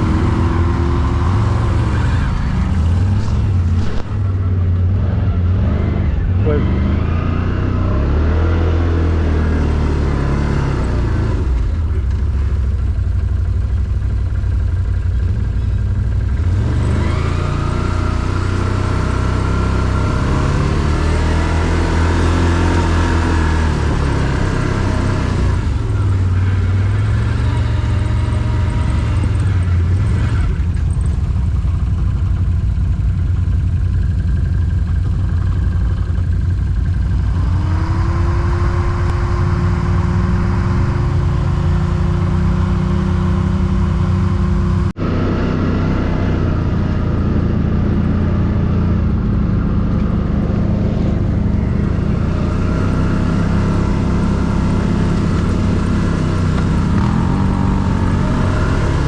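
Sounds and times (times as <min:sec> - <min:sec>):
quad bike engine revving: 0:00.0 - 0:59.0.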